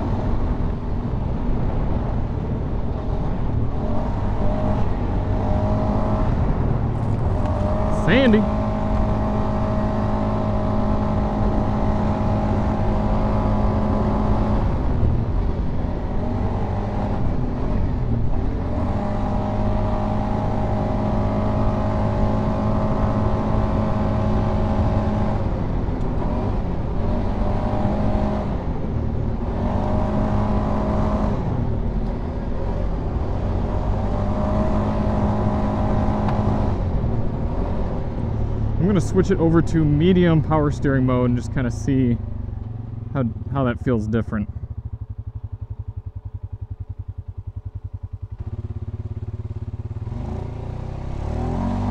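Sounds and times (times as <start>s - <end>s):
atv engine running at high revs: 0.0s - 51.9s.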